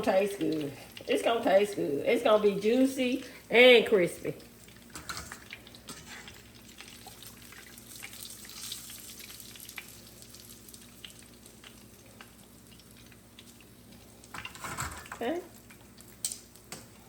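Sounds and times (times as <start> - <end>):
hot oil crackling and popping: 0.0 - 17.0.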